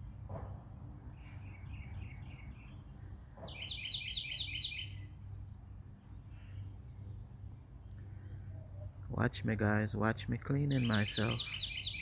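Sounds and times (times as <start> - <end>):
low background hum: 0.0 - 12.0
songbird chirping: 0.0 - 12.0.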